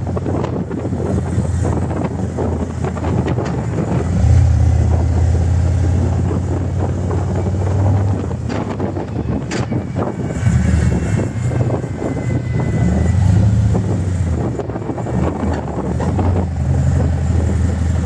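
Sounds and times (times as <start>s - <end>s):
motorcycle engine and exhaust: 0.0s - 18.0s
wind noise on microphone: 0.0s - 18.0s.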